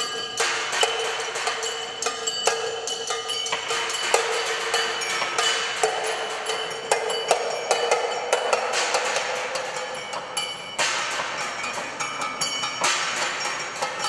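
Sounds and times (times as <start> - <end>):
steady ringing tone: 0.0 - 14.0.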